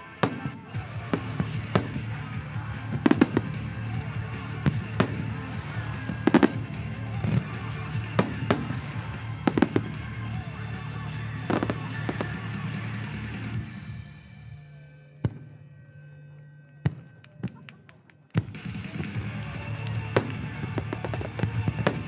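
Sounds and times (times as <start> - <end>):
music playing: 0.0 - 22.0.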